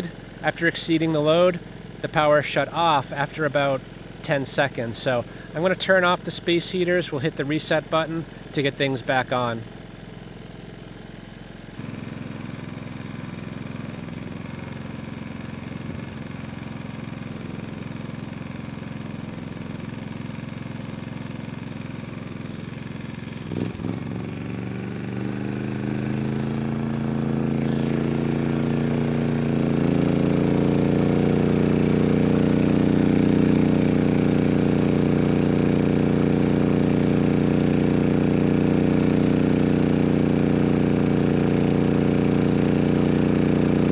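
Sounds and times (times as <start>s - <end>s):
generator engine running: 0.0s - 43.9s.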